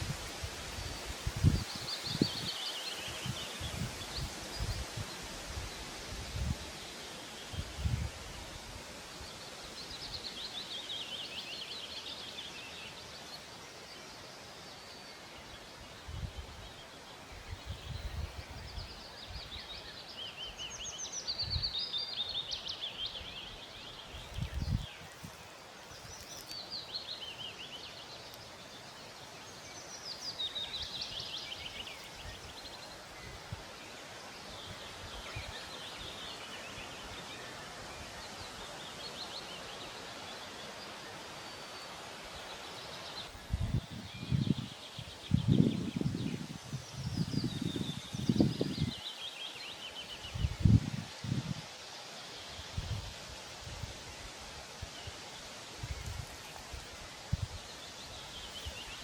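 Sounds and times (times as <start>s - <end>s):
background hiss: 0.0s - 59.0s
songbird singing: 0.0s - 59.0s.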